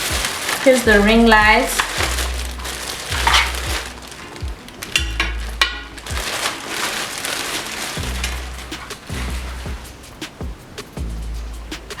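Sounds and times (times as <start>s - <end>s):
plastic packaging crinkling: 0.0s - 9.9s
background music with bass beat: 0.0s - 12.0s.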